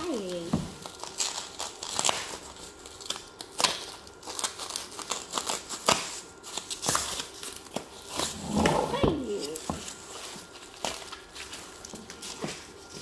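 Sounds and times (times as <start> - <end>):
plastic crinkling: 0.0 - 13.0.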